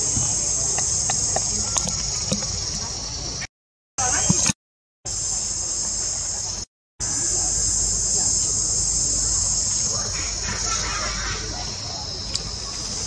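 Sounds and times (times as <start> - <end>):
high-pitched insect chorus: 0.0 - 4.5, 5.1 - 13.0.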